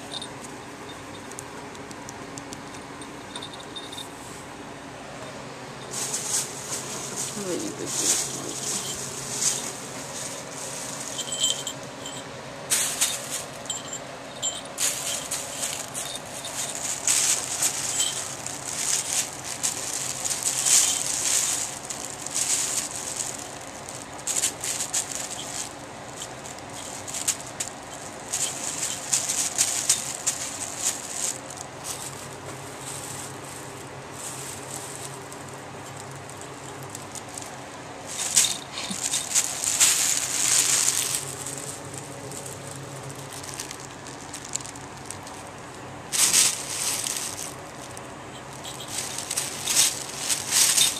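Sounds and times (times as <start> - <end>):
collar bells jingling: 0.0 - 1.5, 2.7 - 4.4, 5.1 - 50.9
plastic bag crinkling: 5.5 - 50.9.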